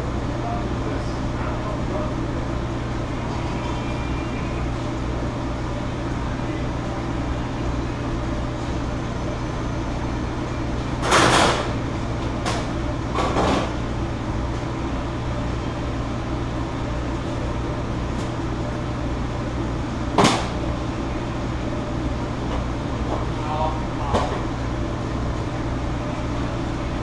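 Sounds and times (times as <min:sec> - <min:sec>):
exhaust hood ventilation hum: 0:00.0 - 0:27.0.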